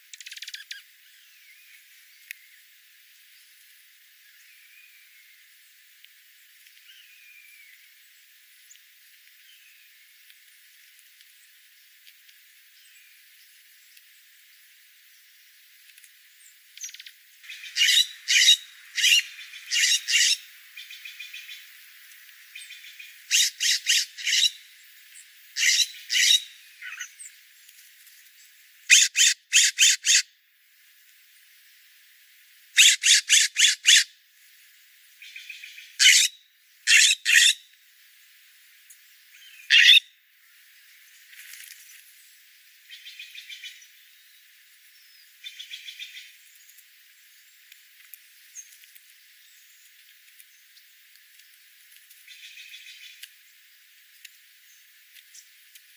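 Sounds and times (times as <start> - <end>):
wild birds chirping: 0.0 - 27.6, 28.2 - 30.3, 31.3 - 34.1, 34.7 - 55.9
faint steady hiss: 0.0 - 29.3, 30.1 - 55.9.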